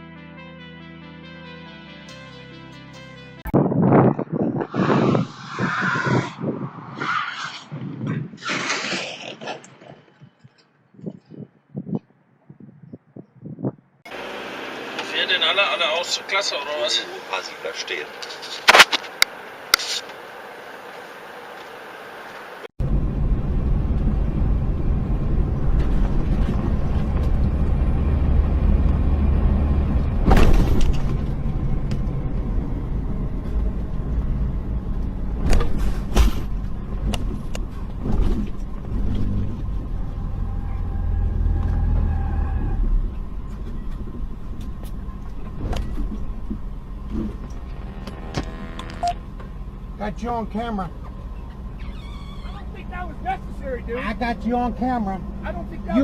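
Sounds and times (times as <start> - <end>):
car engine and road rumble: 3.4 - 12.0, 13.6 - 56.0.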